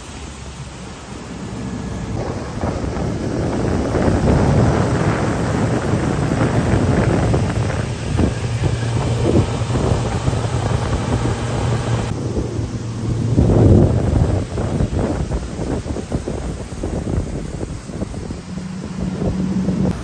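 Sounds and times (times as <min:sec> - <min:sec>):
outboard motor humming: 0:00.0 - 0:20.0
rushing water: 0:00.0 - 0:20.0
wind buffeting microphone: 0:00.8 - 0:20.0.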